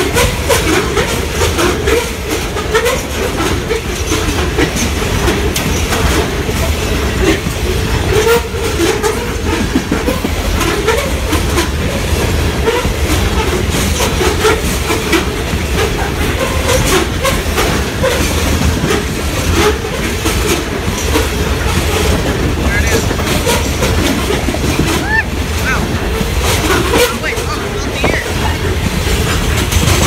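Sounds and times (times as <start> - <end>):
train cars rumbling past: 0.0 - 30.0
wheel squeals: 0.0 - 30.0
wheels clattering over rail joints: 0.0 - 30.0.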